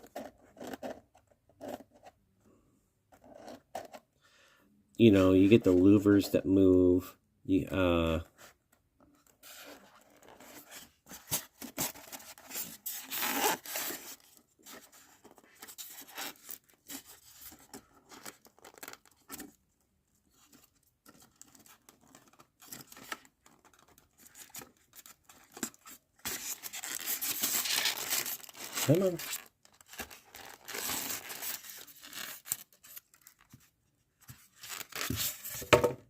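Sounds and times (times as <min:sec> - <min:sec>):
plastic and cardboard rustling: 0:00.0 - 0:02.2, 0:07.7 - 0:36.0.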